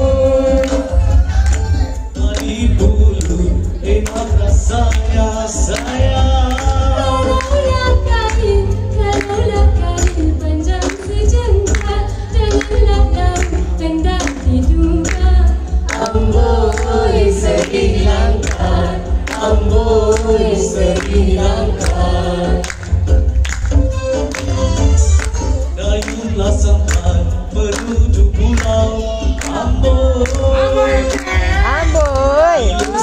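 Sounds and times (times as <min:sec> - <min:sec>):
live singing with music: 0:00.0 - 0:33.0.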